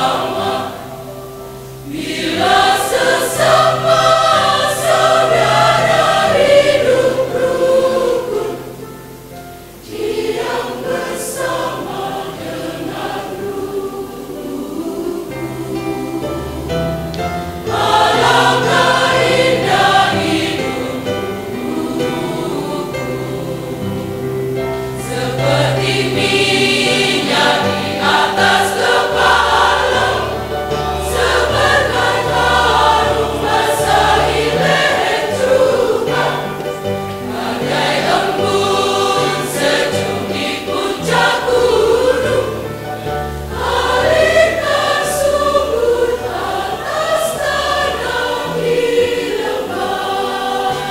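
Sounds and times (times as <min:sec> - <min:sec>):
mixed choir singing a hymn: 0:00.0 - 0:50.9.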